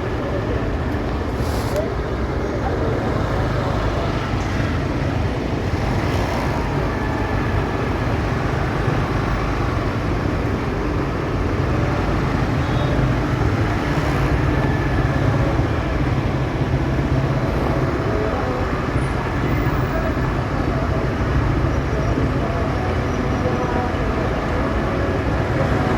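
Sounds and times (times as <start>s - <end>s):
surrounding traffic: 0.0s - 25.9s.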